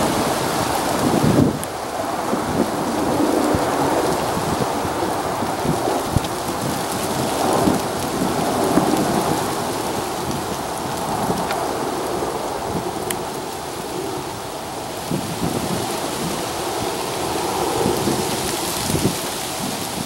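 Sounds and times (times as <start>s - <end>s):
helicopter rotor and engine noise: 0.0s - 20.0s.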